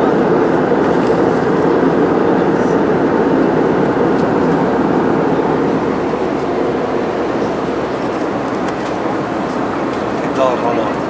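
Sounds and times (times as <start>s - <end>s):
airplane cabin engine and airflow noise: 0.0s - 11.0s.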